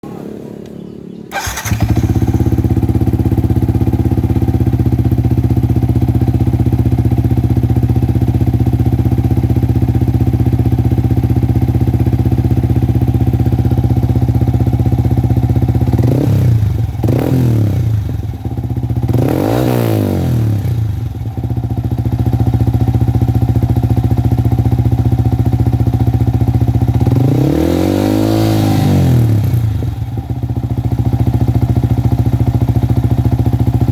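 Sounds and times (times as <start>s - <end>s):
motorcycle engine revving: 0.0s - 33.9s
motorcycle engine idling: 0.7s - 27.8s, 29.2s - 33.9s.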